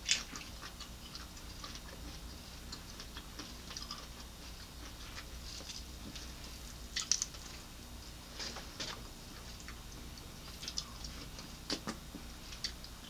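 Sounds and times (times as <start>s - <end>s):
biting and chewing crackles: 0.0s - 13.0s
faint steady hum: 0.0s - 13.0s.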